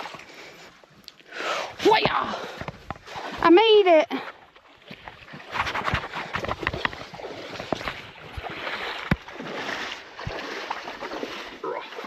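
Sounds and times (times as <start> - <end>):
water sloshing from wading: 0.0 - 12.0.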